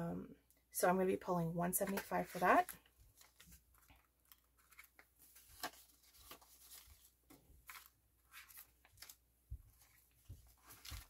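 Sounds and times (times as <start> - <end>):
banknotes rustling and crinkling: 1.7 - 11.0.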